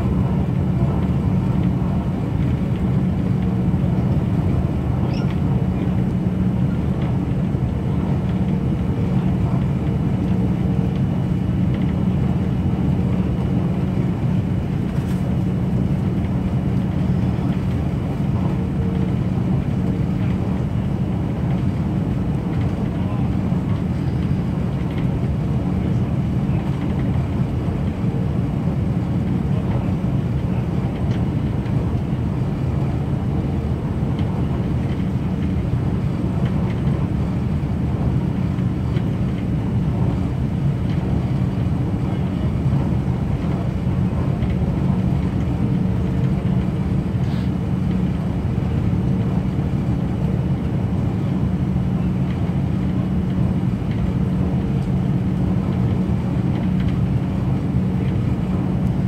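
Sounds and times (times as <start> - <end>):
low train engine drone: 0.0 - 59.0
wheels rumbling on rails: 0.0 - 59.0.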